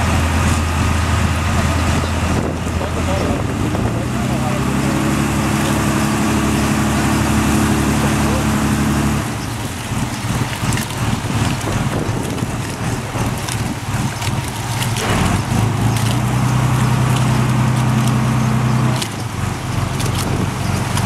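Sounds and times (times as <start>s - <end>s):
boat engine running: 0.0s - 21.0s
water jet splashing: 0.0s - 21.0s
wind on microphone: 0.0s - 21.0s.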